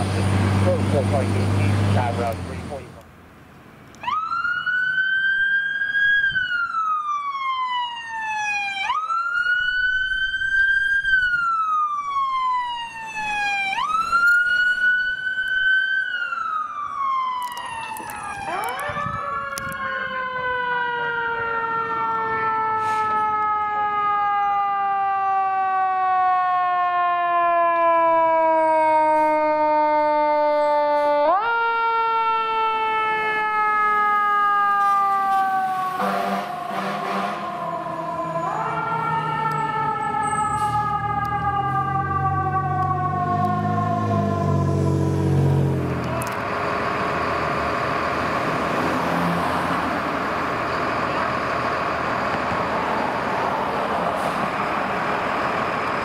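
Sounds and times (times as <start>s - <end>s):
wailing sirens: 0.0s - 3.0s, 3.9s - 56.0s
fire engine siren falling tone: 4.0s - 56.0s.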